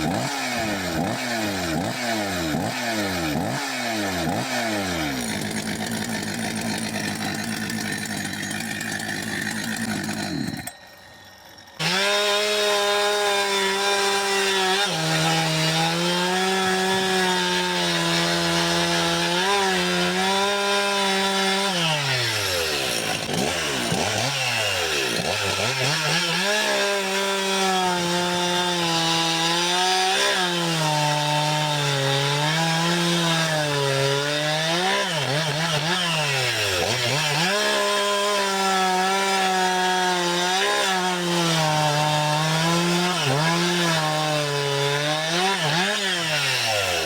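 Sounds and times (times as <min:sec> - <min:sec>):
chainsaw revving: 0:00.0 - 0:10.7, 0:11.7 - 0:47.0.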